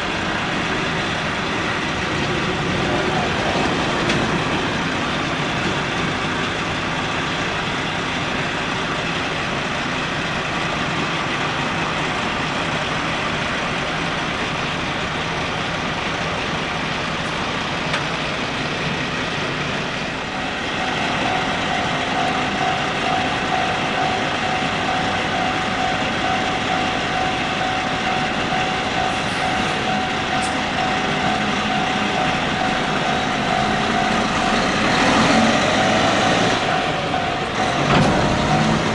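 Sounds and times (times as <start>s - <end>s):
diesel truck engine running: 0.0s - 38.9s
steady whine: 0.0s - 38.9s.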